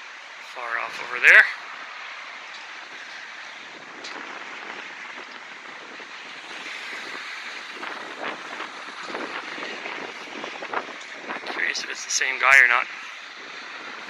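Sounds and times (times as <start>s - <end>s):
blustery wind: 0.0s - 14.0s
street traffic: 0.0s - 14.0s.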